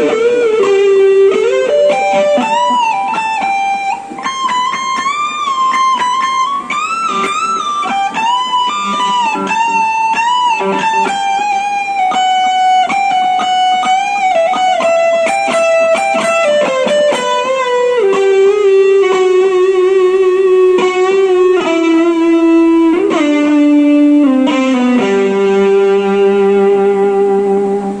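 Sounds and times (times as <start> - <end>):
electric guitar lead line: 0.0 - 28.0.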